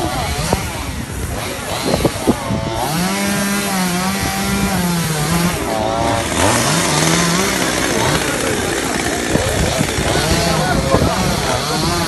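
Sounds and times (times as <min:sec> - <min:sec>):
chainsaw running at high revs: 0:00.0 - 0:12.0.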